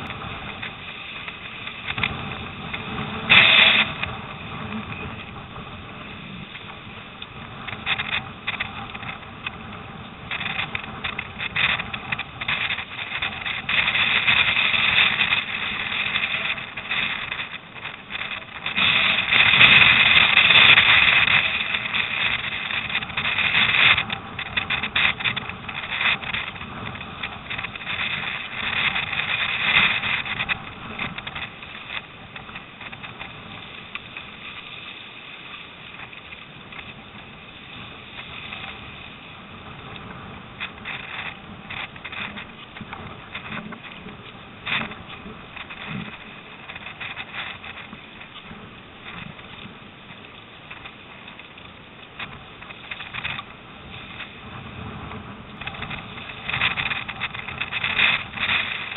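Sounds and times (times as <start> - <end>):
water splashing along a hull: 0.0 - 58.9
wind buffeting microphone: 0.0 - 58.9.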